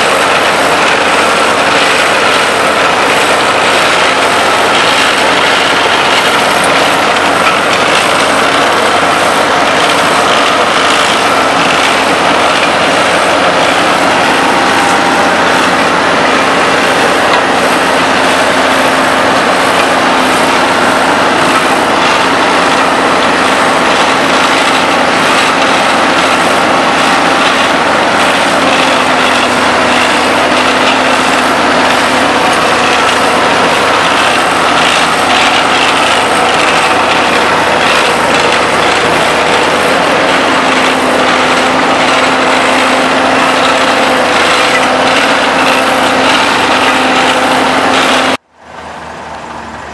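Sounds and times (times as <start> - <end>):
diesel engines of paving machinery: 0.0 - 49.9.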